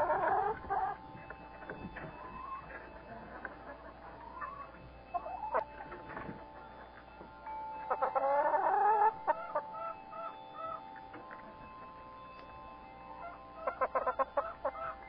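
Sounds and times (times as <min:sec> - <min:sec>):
hens clucking and calling: 0:00.0 - 0:11.9, 0:13.2 - 0:15.0.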